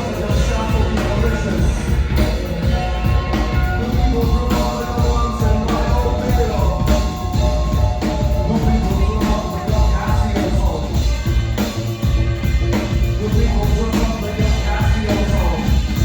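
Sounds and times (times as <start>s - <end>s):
drums: 0.0s - 16.0s
heavy bass: 0.0s - 16.0s
live rock band playing: 0.0s - 16.0s.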